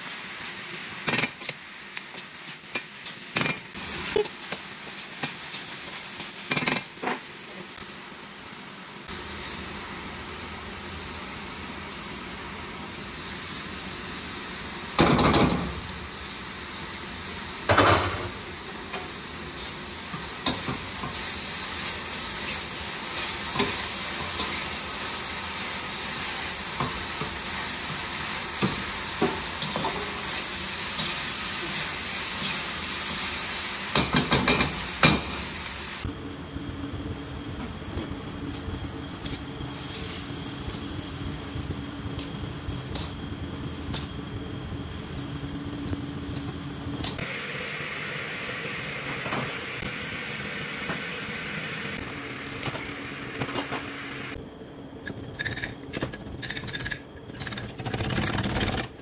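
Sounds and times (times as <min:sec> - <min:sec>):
vegetables sizzling in a wok: 0:00.0 - 0:53.0.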